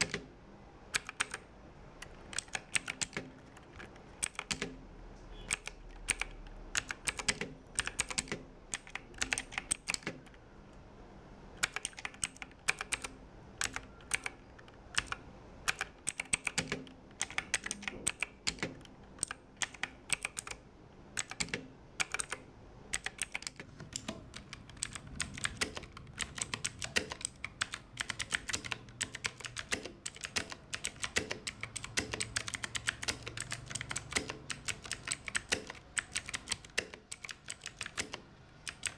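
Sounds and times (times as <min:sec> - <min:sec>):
mechanical keyboard clicks: 0:00.0 - 0:00.3, 0:00.9 - 0:04.8, 0:05.4 - 0:10.4, 0:11.6 - 0:38.9.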